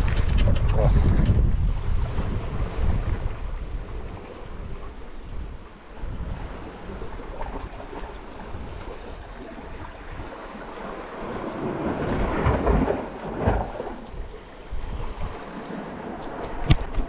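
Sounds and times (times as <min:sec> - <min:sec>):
sea washing around rocks: 0:00.0 - 0:17.0
wind buffeting microphone: 0:00.0 - 0:17.0.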